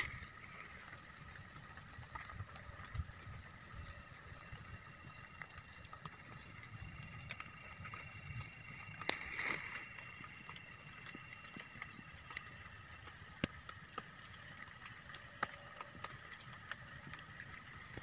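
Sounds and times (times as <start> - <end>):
twigs snapping and clicking: 0.0 - 3.0, 3.7 - 18.0
forest insects droning: 0.0 - 18.0.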